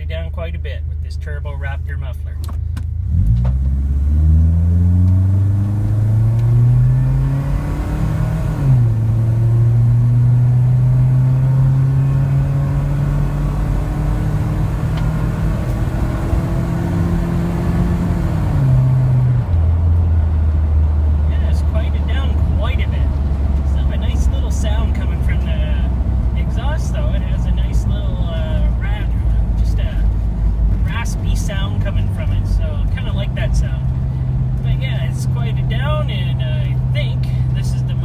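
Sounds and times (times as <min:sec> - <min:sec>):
van engine accelerating: 0:02.4 - 0:38.0.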